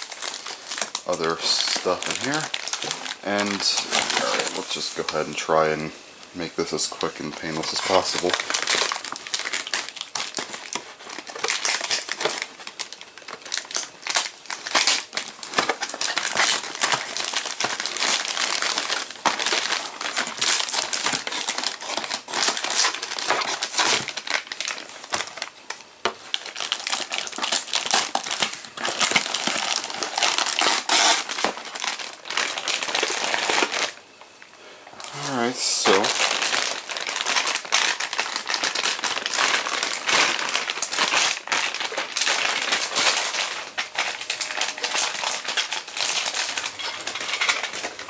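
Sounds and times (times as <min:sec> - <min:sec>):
packaging crinkling: 0:00.0 - 0:05.8, 0:06.6 - 0:48.0.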